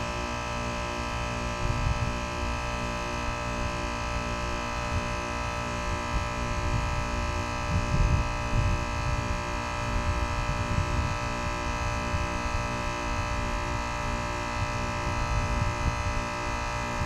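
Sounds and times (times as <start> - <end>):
heat pump low uneven rumble: 0.0 - 17.0
heat pump multi-tone hum: 0.0 - 17.0.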